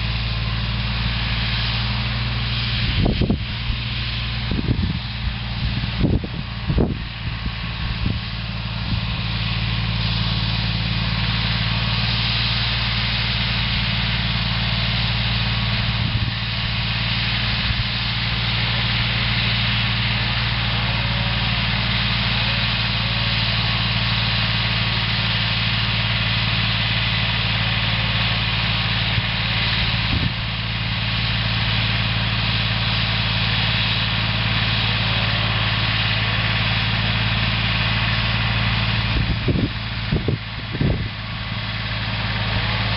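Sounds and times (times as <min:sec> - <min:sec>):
diesel tractor engine idling: 0:00.0 - 0:42.9.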